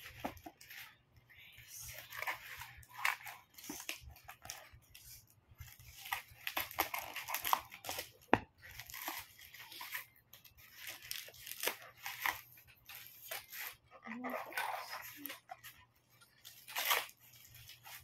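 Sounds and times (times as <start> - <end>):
cardboard tearing and crumpling: 1.6 - 18.0.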